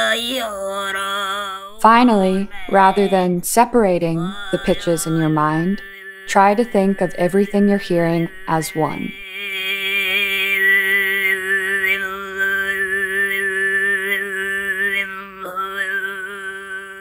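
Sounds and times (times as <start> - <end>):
throat singing: 0.0 - 17.0.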